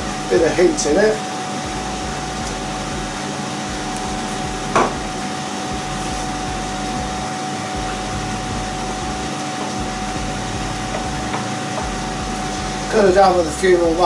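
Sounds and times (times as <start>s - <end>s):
fan running: 0.0s - 14.0s.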